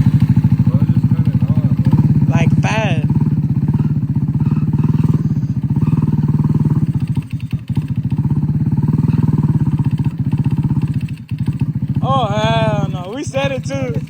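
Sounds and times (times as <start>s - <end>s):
moped engine running: 0.0s - 14.0s.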